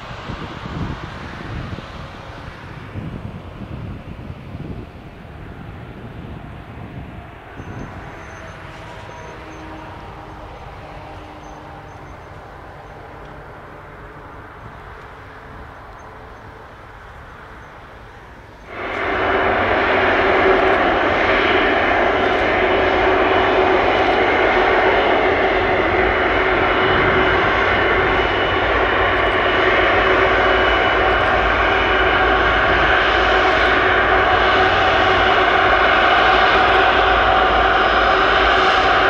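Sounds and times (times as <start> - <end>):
jet engines rumbling and whining: 0.0 - 39.0.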